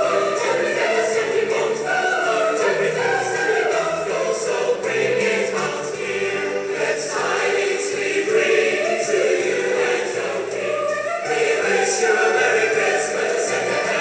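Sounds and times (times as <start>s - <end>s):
choir singing sustained lines: 0.0s - 14.0s.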